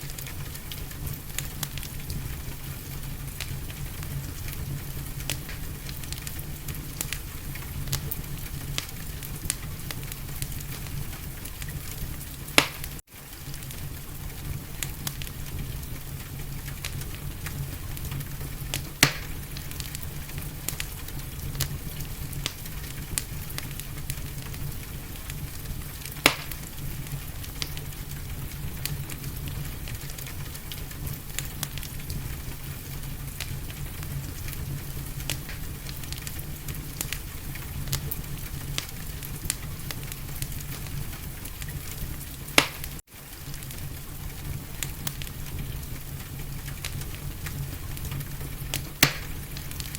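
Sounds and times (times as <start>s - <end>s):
fire pops: 0.0s - 49.9s
wood fire crackling: 0.0s - 49.9s.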